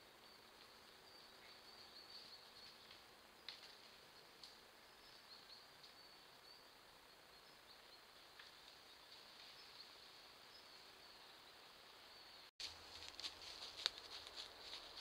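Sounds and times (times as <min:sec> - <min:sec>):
woodland hiss: 0:00.0 - 0:15.0.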